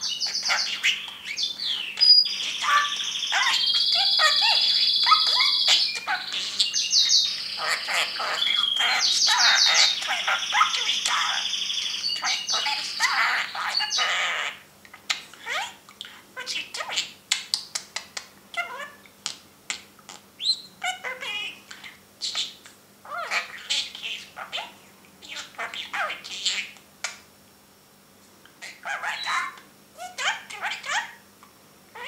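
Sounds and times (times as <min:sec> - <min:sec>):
budgerigar chattering: 0:00.0 - 0:26.8, 0:28.6 - 0:31.2.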